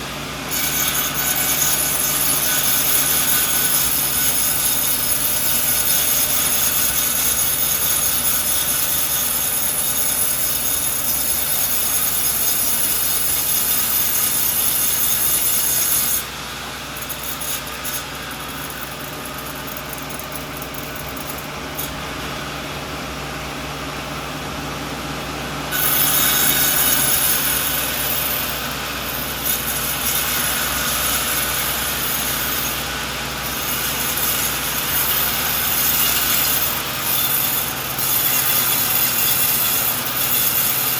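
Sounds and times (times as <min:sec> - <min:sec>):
saw blade cutting log: 0:00.0 - 0:22.3, 0:25.7 - 0:40.9.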